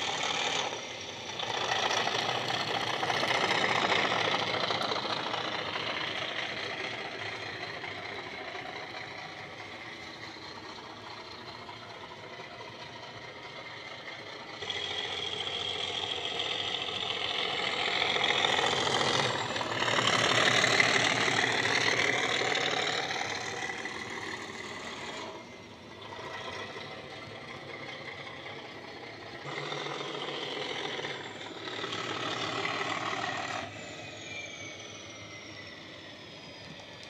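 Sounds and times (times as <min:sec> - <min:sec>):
model locomotive diesel engine sound: 0:00.0 - 0:37.0.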